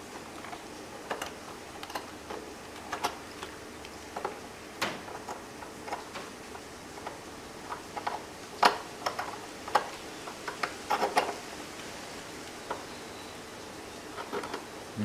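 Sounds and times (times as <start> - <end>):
computer cooling fan whir: 0.0 - 15.0.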